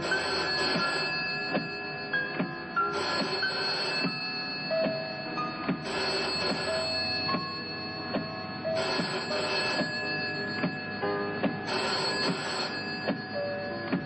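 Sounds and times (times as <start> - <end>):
telephone bell ringing: 0.0 - 14.0.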